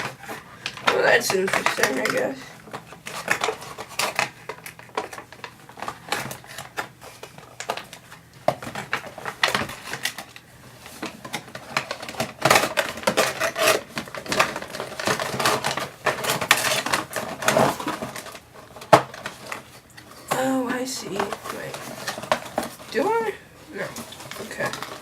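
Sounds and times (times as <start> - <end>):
cardboard and plastic crackling: 0.0 - 25.0.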